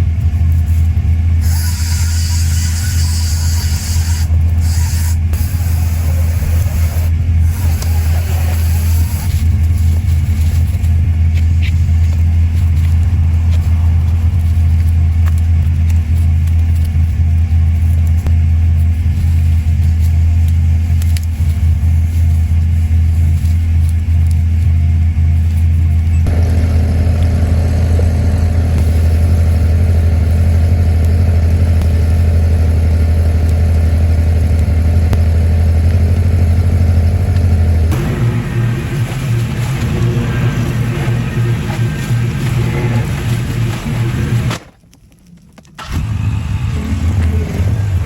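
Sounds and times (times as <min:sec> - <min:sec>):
engine deep drone: 0:00.0 - 0:44.7, 0:45.7 - 0:48.0.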